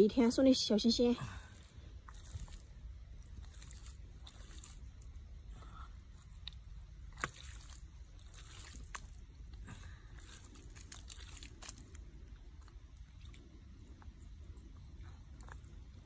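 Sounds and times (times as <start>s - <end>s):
faint low rumble: 0.0s - 16.0s
hands squelching in wet mud: 1.3s - 16.0s.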